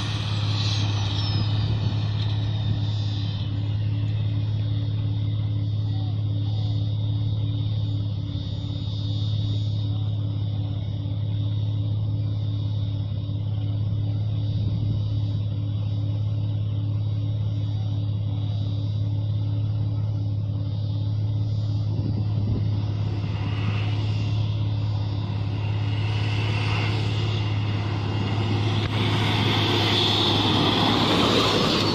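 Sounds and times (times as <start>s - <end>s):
diesel engine droning: 0.0s - 31.9s.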